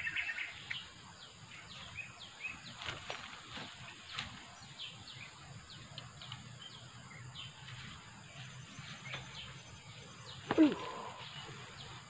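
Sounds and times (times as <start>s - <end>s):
bird chirps: 0.0s - 3.2s, 3.9s - 12.0s
high insect drone: 0.0s - 12.0s.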